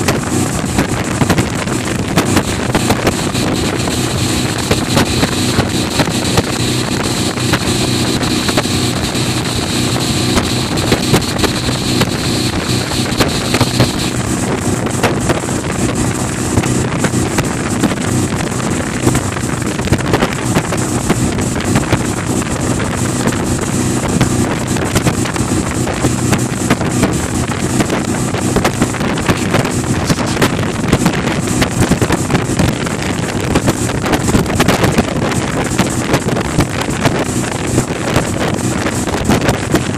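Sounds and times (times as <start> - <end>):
boat wake rushing: 0.0 - 39.9
speedboat engine running: 0.0 - 39.9
wind buffeting microphone: 0.0 - 39.9.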